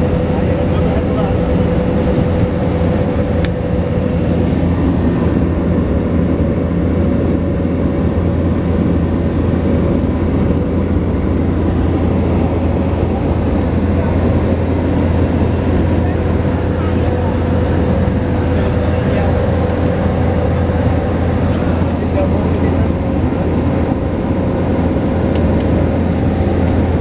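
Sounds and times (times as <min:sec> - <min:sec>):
propeller engine drone: 0:00.0 - 0:27.0.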